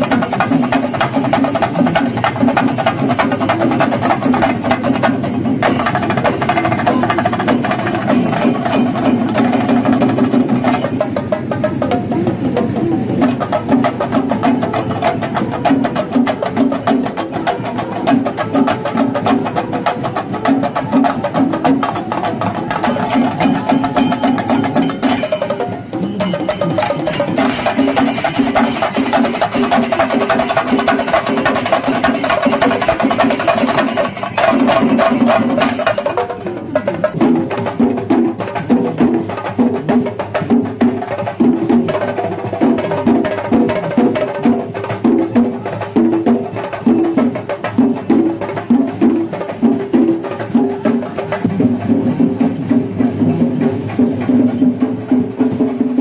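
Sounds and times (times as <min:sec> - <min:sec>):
chenda drums beaten rapidly: 0:00.0 - 0:56.0.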